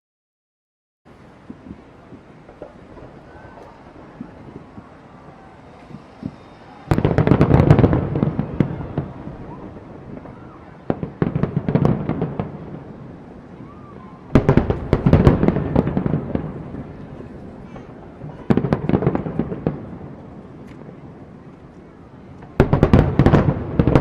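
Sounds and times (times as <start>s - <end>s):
fireworks bangs and crackles: 1.2s - 24.0s.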